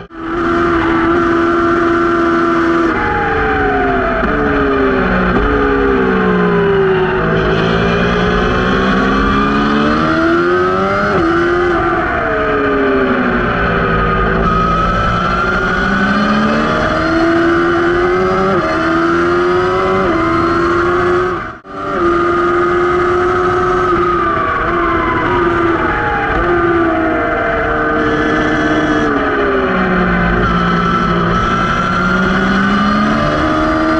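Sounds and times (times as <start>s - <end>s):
motorcycle engine at racing speed: 0.0s - 33.9s.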